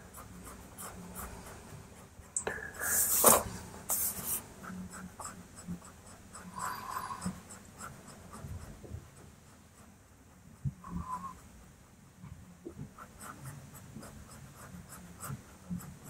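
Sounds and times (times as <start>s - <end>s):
blending tool rubbing pastel on paper: 0.0s - 16.0s.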